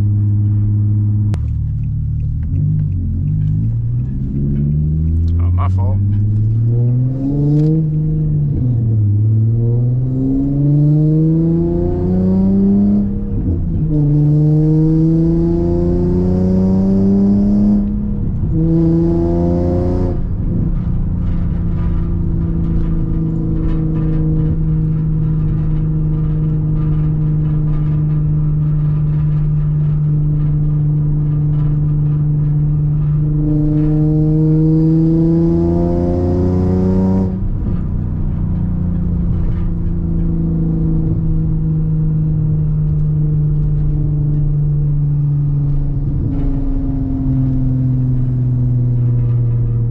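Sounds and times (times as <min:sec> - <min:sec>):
car engine through gears: 0:00.0 - 0:49.9.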